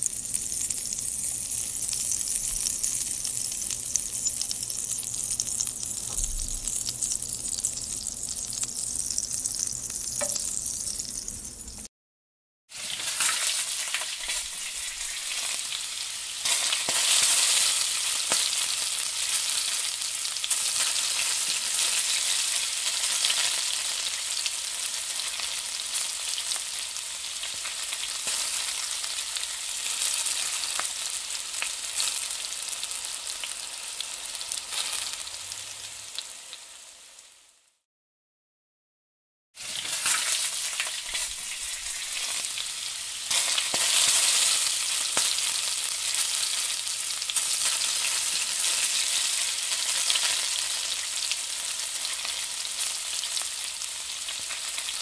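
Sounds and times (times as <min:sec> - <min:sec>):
onions sizzling in a frying pan: 0:00.0 - 0:11.9, 0:12.7 - 0:37.8, 0:39.6 - 0:55.0.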